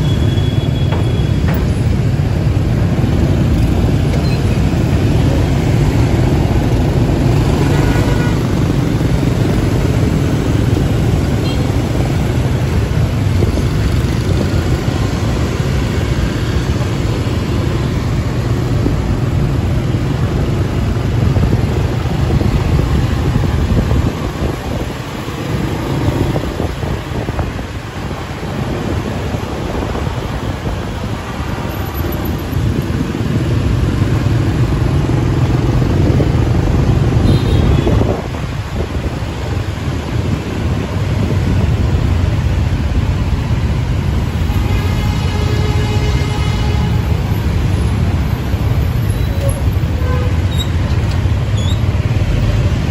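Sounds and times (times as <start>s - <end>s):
motorbike and scooter traffic: 0.0s - 52.9s.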